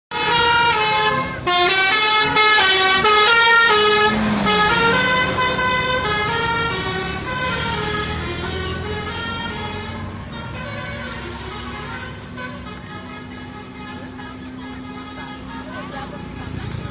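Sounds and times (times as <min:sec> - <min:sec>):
multi-tone bus air horn melody: 0:00.1 - 0:16.9.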